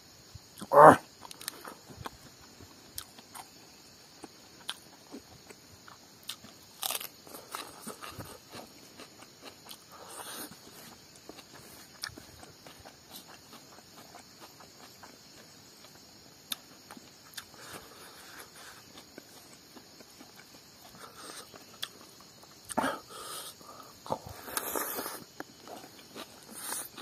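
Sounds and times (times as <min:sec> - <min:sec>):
faint insect hiss: 0:00.0 - 0:27.0
person chewing and smacking: 0:00.6 - 0:03.6, 0:04.2 - 0:22.8.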